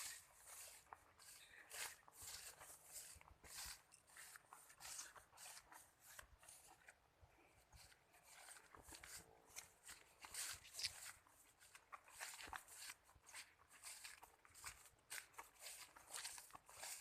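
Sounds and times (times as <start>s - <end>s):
footsteps on muddy ground: 0.0s - 17.0s.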